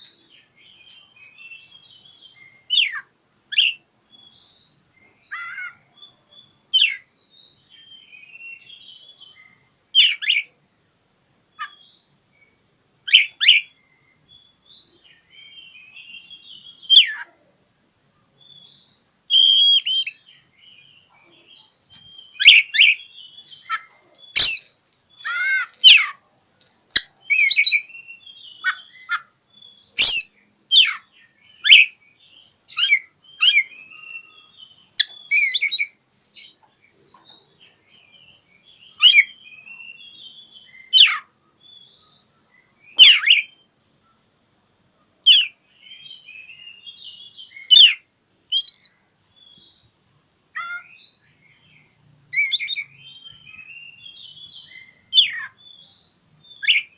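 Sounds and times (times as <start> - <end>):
magpie-robin singing: 0.0 - 10.6, 11.4 - 17.4, 18.3 - 26.2, 26.9 - 43.7, 45.3 - 50.0, 50.6 - 56.9.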